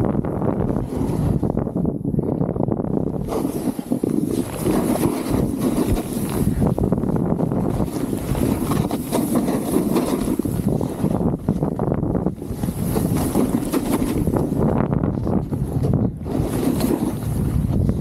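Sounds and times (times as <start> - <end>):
wind buffeting microphone: 0.0 - 18.0
snowboard scraping through snow: 0.2 - 1.9, 3.0 - 18.0.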